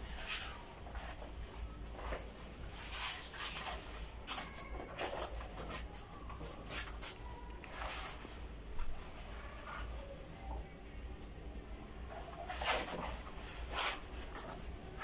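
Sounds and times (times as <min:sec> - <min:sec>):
wallpaper rustling against wall: 0:00.0 - 0:15.0.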